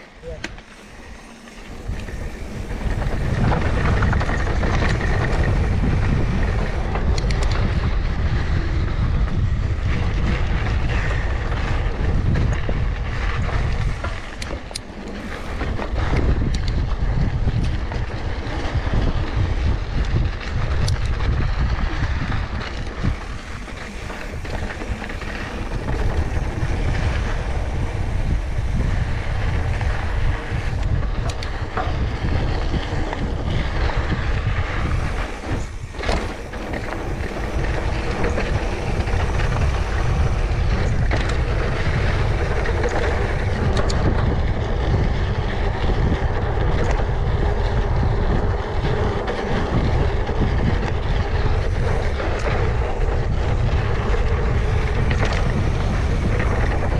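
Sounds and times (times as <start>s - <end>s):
tyres rushing on trail: 0.0s - 56.9s
wind rumbling on microphone: 0.0s - 56.9s.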